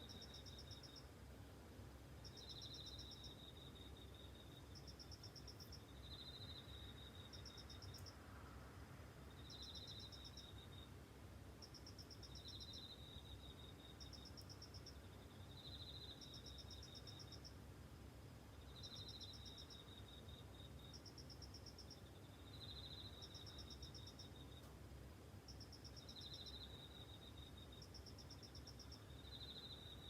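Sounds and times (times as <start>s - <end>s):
crickets chirping: 0.0s - 1.2s, 2.1s - 30.0s.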